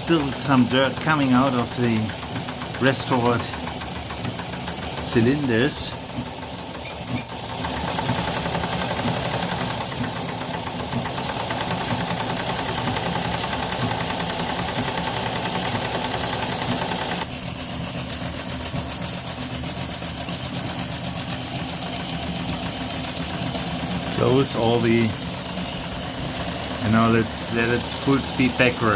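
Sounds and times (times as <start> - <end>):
steam locomotive engine beat: 0.0 - 28.9.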